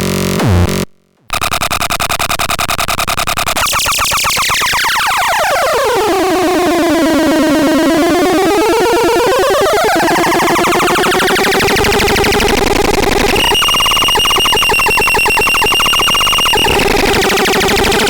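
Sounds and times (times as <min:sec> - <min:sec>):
pulsing buzzy synth tone: 0:01.3 - 0:05.4, 0:06.4 - 0:18.0.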